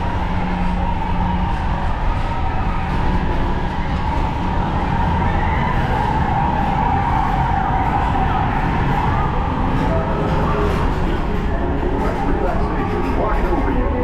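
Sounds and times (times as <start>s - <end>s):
ride car rumbling on track: 0.0s - 14.0s.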